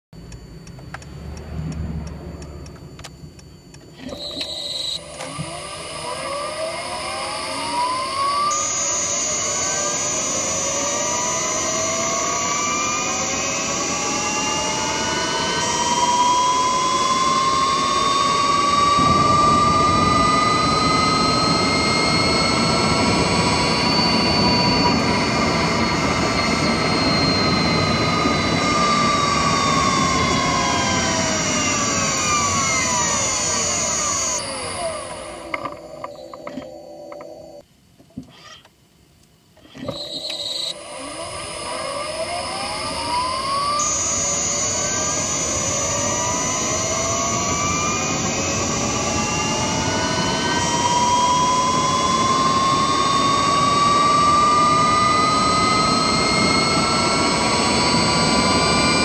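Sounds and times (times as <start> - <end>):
electric motor whining: 0.2 - 37.6, 39.6 - 59.0
steady high inverter whine: 0.2 - 59.0.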